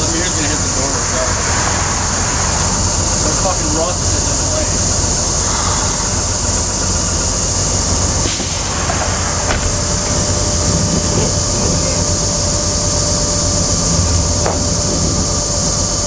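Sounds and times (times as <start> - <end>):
constant hiss: 0.0 - 16.0
heavy vehicle rumble: 0.0 - 16.0
thin steady whine: 0.0 - 16.0.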